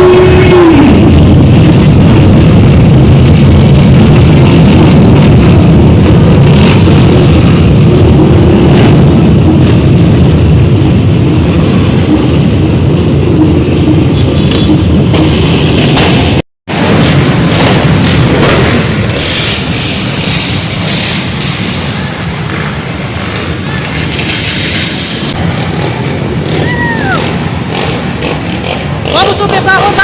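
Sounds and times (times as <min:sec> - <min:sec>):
vehicle engines revving: 0:00.0 - 0:30.0.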